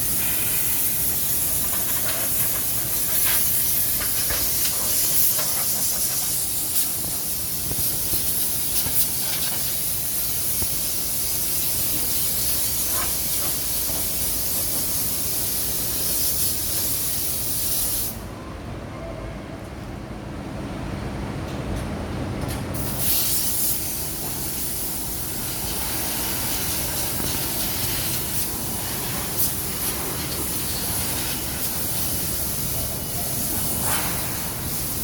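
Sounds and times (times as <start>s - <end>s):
loud steady hissing: 0.0s - 18.3s, 22.8s - 35.0s.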